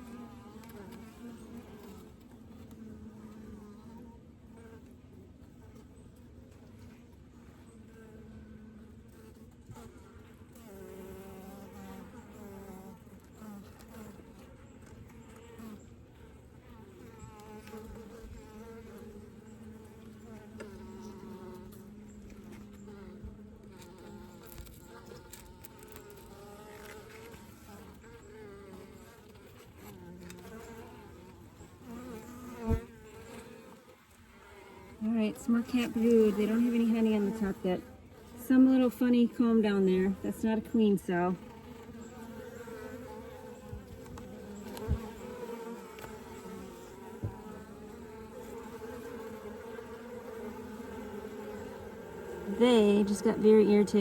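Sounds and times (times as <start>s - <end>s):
bees buzzing: 7.8s - 54.0s.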